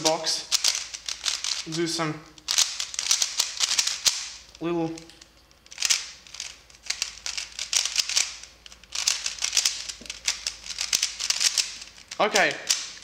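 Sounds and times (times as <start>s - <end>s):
puzzle cube plastic clicking: 0.5s - 13.0s.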